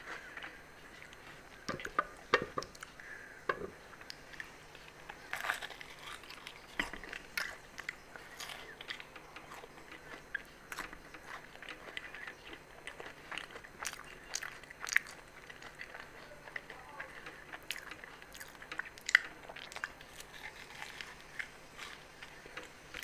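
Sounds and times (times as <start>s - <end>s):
person chewing: 0.0s - 23.0s
crisp pastry crunching: 4.0s - 23.0s.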